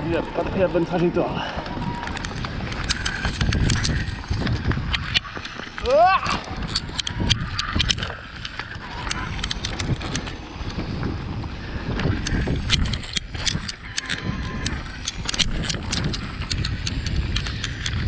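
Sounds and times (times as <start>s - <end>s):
bike clicking and rattling: 0.0s - 18.0s
bike tyres rumbling over dirt: 0.0s - 18.0s
wind rumble on microphone: 0.0s - 18.0s.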